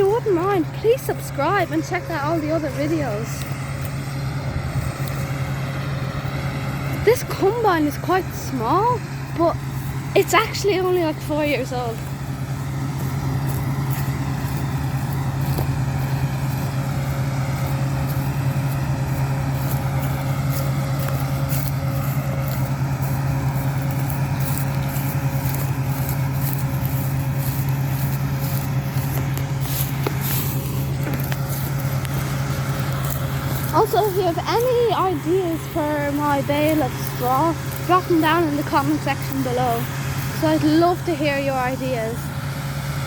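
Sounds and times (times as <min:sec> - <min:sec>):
combine harvester running: 0:00.0 - 0:43.0.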